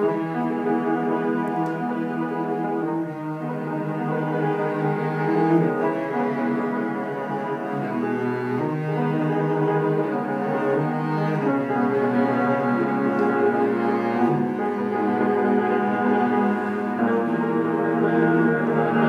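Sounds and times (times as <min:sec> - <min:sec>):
bowed cello notes: 0:00.0 - 0:19.0
piano accompaniment: 0:00.0 - 0:19.0.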